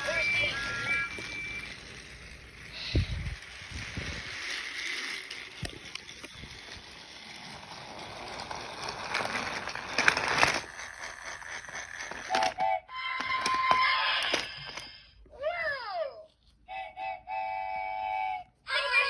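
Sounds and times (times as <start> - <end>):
pitched toy sounds: 0.0 - 7.5, 9.0 - 19.0
toy train motor whirring: 0.0 - 19.0.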